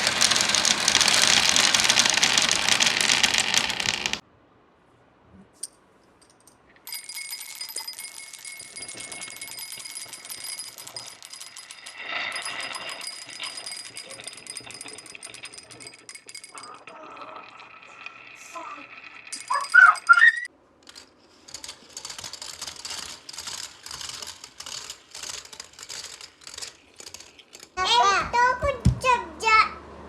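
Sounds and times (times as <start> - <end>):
marbles clattering down wooden run: 0.0 - 4.2, 6.9 - 29.0.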